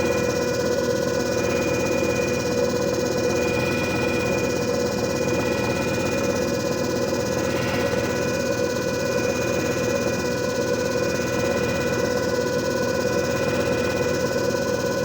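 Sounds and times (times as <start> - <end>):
machine motor hum with whine: 0.0 - 15.0.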